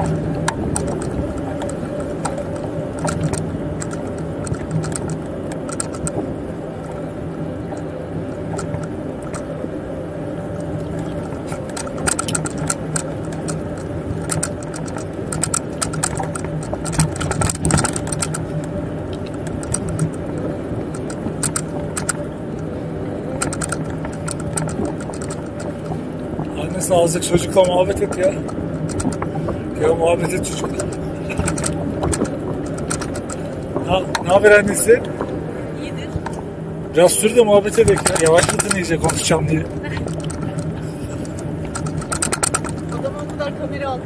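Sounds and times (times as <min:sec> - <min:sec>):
bike rattling clicks: 0:00.0 - 0:35.5, 0:37.6 - 0:43.4
bicycle tyres rolling hum: 0:00.0 - 0:44.0.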